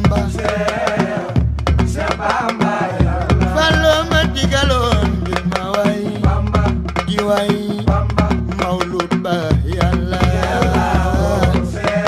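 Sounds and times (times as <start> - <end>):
devotional song with drum beat: 0.0 - 12.0.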